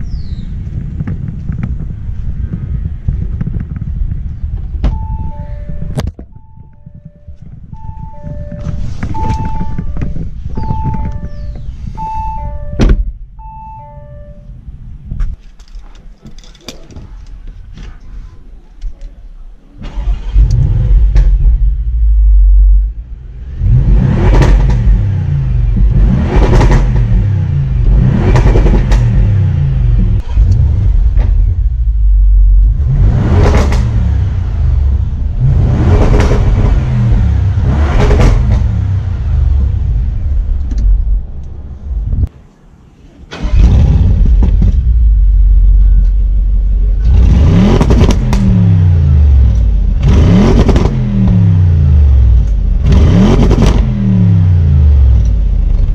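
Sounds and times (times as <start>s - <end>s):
car engine idling and revving: 0.0s - 18.0s, 19.7s - 42.3s, 43.3s - 55.9s.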